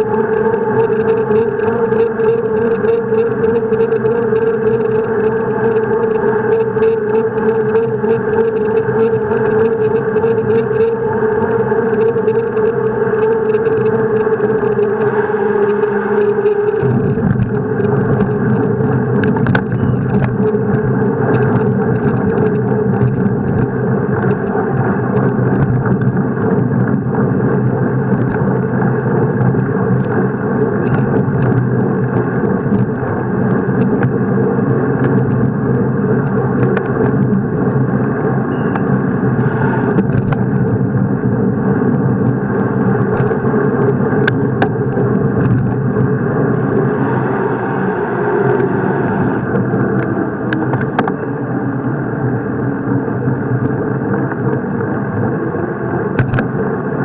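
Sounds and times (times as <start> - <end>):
bicycle tyres humming on pavement: 0.0 - 57.0
wind on microphone: 0.0 - 57.0.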